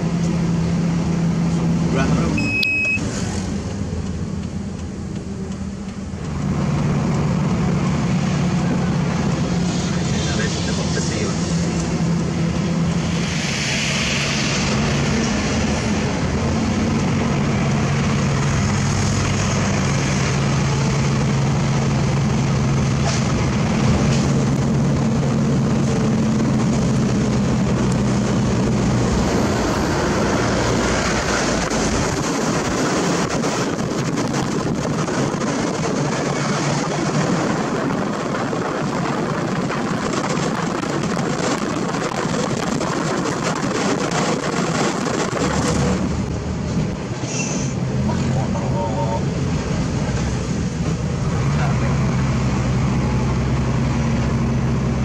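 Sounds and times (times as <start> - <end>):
truck diesel engine droning: 0.0 - 13.4, 14.1 - 55.0
road noise: 0.0 - 55.0.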